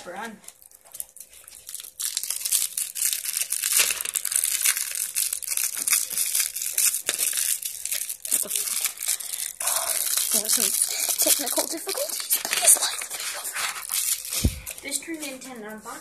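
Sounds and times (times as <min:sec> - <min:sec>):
plastic wrapper crinkling: 0:00.0 - 0:15.9.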